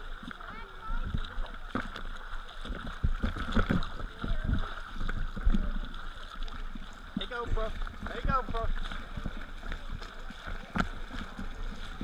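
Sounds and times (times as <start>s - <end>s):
seawater slapping and splashing: 0.0s - 12.0s.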